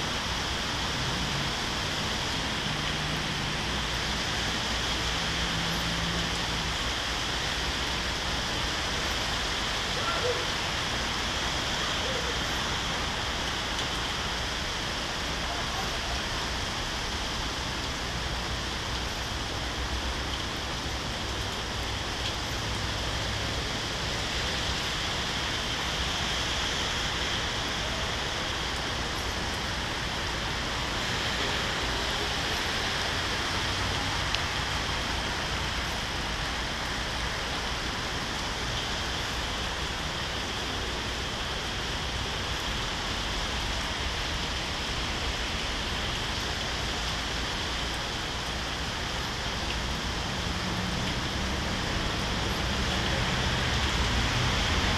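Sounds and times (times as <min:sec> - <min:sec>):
heavy rain hiss: 0:00.0 - 0:54.9.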